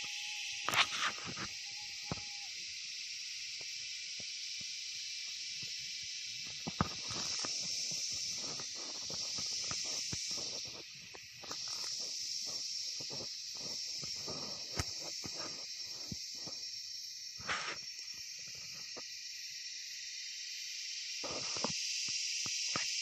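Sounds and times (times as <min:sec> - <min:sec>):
insect chorus: 0:00.0 - 0:23.0.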